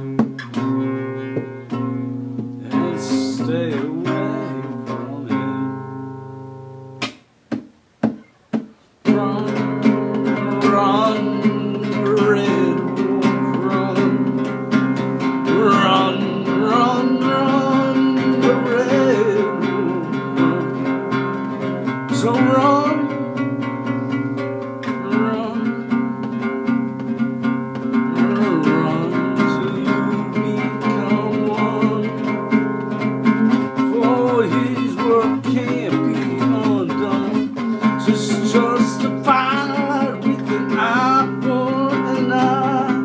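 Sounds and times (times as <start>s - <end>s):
man singing: 0.0s - 6.2s, 9.0s - 43.0s
acoustic guitar strumming: 0.0s - 43.0s.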